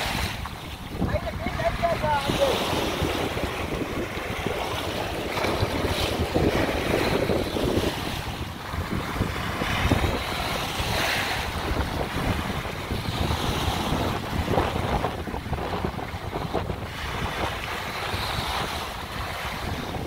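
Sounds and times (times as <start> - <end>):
small waves washing onto shore: 0.0 - 20.0
wind buffeting microphone: 0.0 - 20.0.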